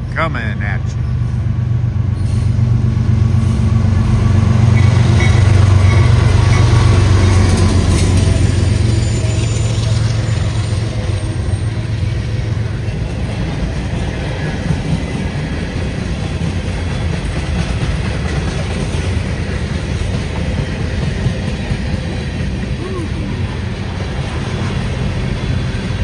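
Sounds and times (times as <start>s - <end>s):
locomotive engine drone: 0.0s - 26.0s
train cars rumbling and clattering: 0.0s - 26.0s.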